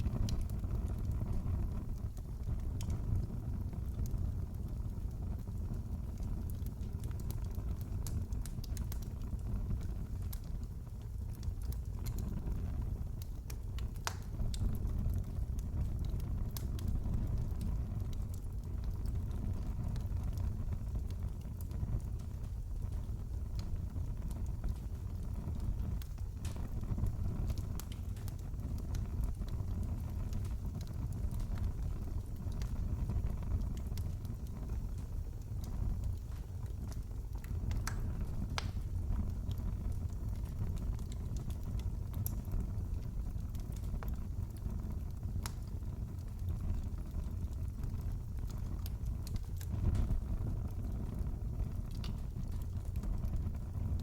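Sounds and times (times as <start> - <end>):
fireplace fire crackling: 0.0 - 54.0
low fire rumble: 0.0 - 54.0.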